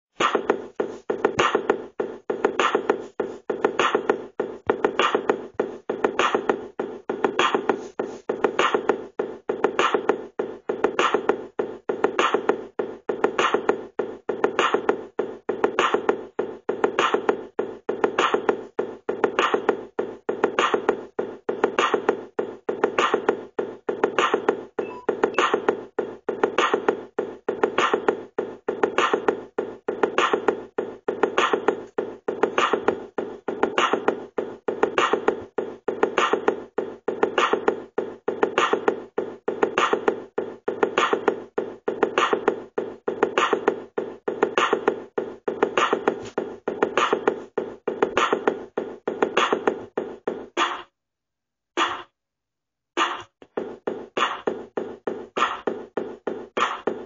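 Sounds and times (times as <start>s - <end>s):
repeating drum pattern: 0.1s - 50.9s, 51.8s - 52.1s, 53.0s - 57.0s.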